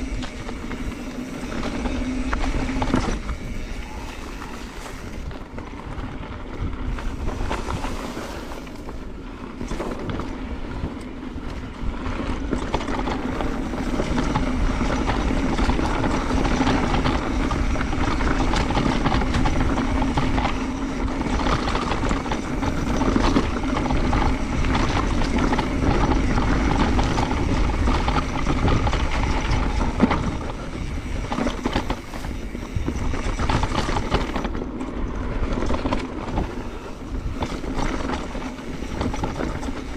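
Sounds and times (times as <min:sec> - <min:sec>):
bike rattles and knocks: 0:00.0 - 0:39.9
tyres rolling on rough ground: 0:00.0 - 0:39.9
wind rumbling on microphone: 0:00.0 - 0:39.9.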